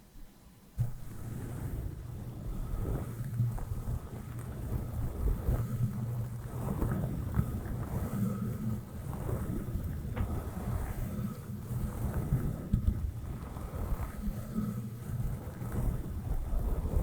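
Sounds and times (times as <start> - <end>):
brush rustling over microphone: 0.8 - 17.0.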